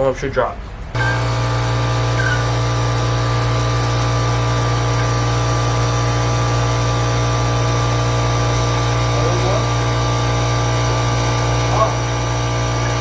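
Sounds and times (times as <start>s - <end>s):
motor humming: 0.9s - 13.0s.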